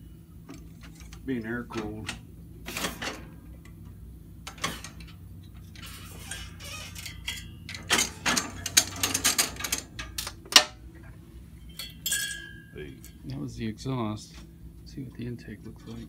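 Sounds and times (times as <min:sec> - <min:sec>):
low steady hum: 0:00.0 - 0:16.0
metal parts clicking and clanking: 0:00.4 - 0:13.3.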